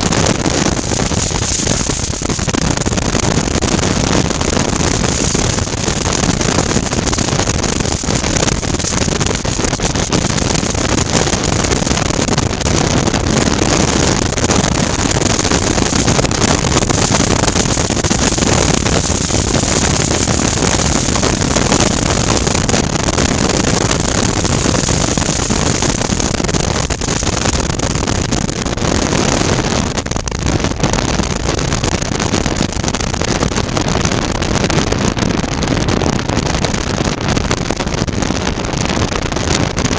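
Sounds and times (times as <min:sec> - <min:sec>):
wind rush over microphone: 0:00.0 - 0:39.9.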